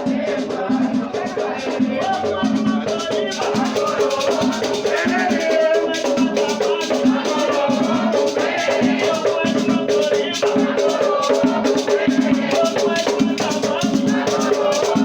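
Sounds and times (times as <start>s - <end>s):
drums beating: 0.0s - 15.0s
voices chanting a melody: 0.0s - 15.0s.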